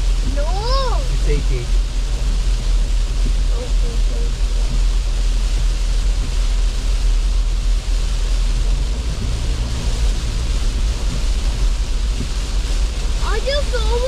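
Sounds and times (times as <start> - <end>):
car driving on wet road: 0.0 - 14.0.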